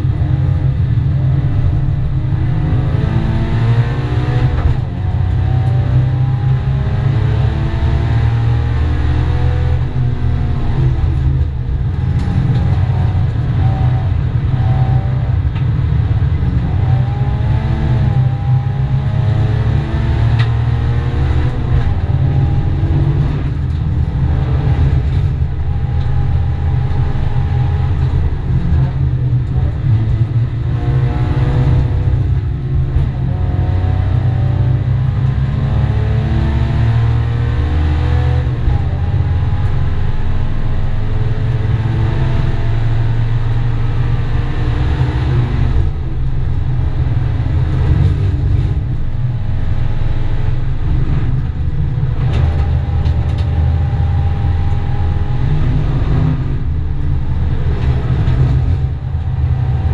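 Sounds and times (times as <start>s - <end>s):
heavy low rumble: 0.0s - 59.9s
race car engine revving through gears: 0.0s - 59.9s.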